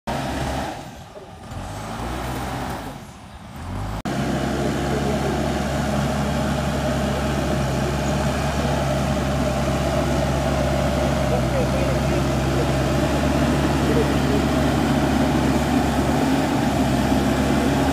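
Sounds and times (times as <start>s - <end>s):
diesel engine working: 0.1s - 17.9s
loader bucket pushing soil: 0.1s - 17.9s.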